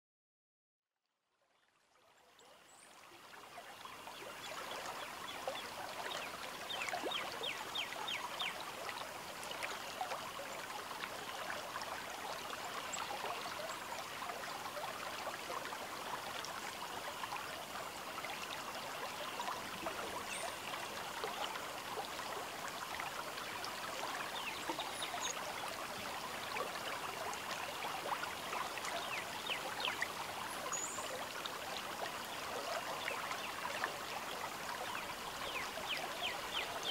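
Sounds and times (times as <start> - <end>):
river water babbling: 1.7 - 36.9.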